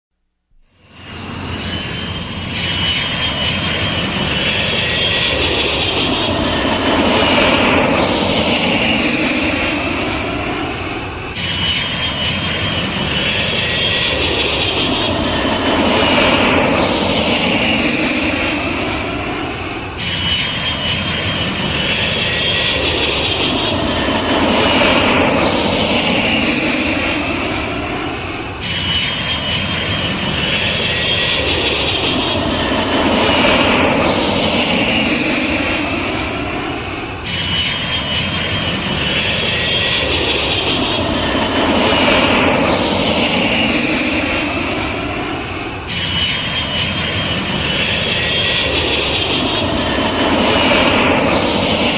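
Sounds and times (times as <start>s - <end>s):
jet engines at takeoff: 0.6s - 51.9s.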